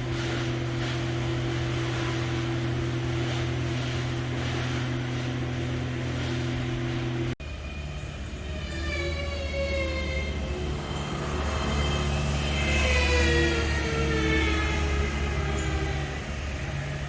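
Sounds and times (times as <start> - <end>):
large engine droning: 0.0 - 17.0
low drone: 0.0 - 17.0.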